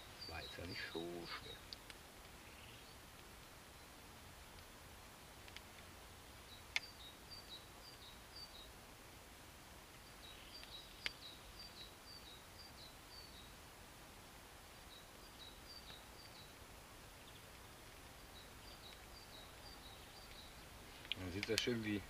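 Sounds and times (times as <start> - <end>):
small bird chirping faintly: 0.0 - 22.0.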